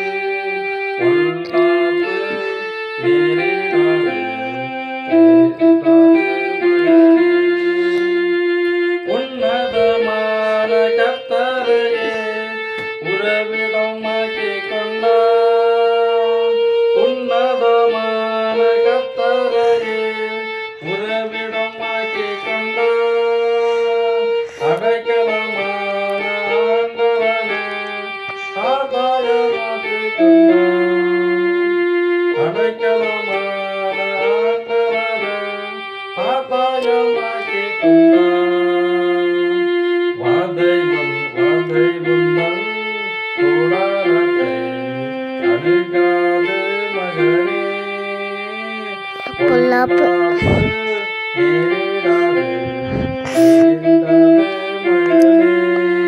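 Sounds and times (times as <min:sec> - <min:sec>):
electronic keyboard melody: 0:00.0 - 0:56.0.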